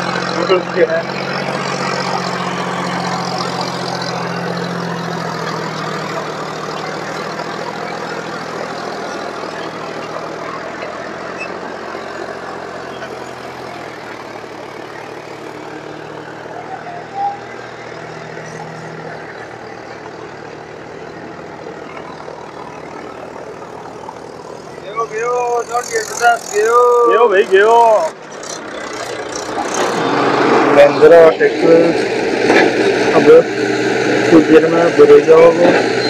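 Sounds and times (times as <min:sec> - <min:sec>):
diesel tractor engine under load: 0:00.0 - 0:36.0.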